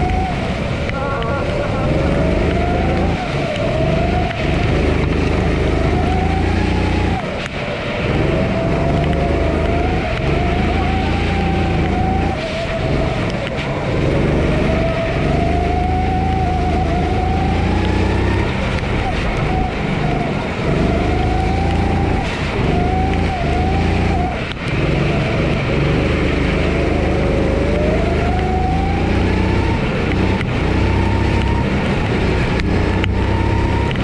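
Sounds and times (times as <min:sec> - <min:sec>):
kart engine revving: 0:00.0 - 0:34.0.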